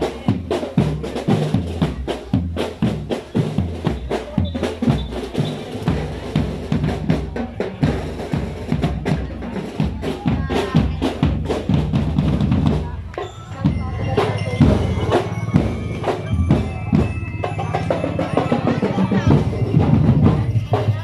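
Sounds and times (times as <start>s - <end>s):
drums playing a fast beat: 0.0s - 21.0s
music: 0.0s - 21.0s.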